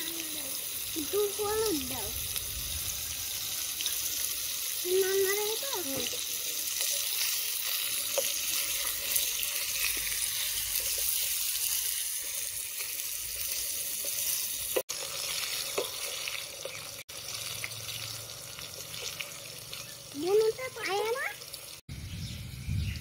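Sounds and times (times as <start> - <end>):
potatoes sizzling in hot oil: 0.0 - 21.8.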